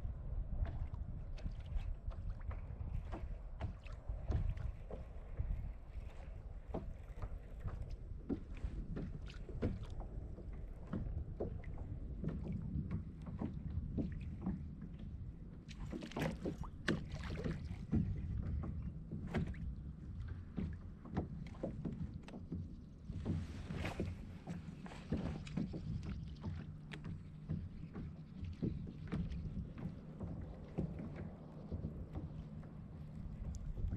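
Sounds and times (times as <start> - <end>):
waves lapping against kayak hull: 0.0 - 33.9
wind rumble on microphone: 0.0 - 33.9.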